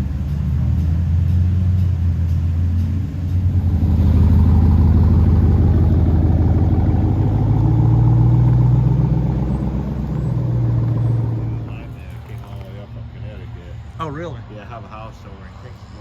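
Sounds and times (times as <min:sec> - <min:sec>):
car engine driving: 0:00.0 - 0:15.3
road rumble: 0:00.0 - 0:16.0.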